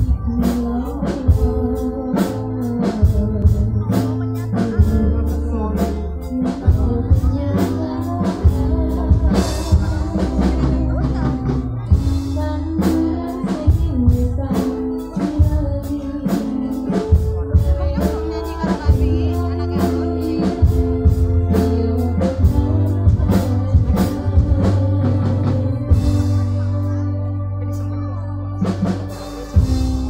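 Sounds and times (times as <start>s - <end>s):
woman singing: 0.0s - 30.0s.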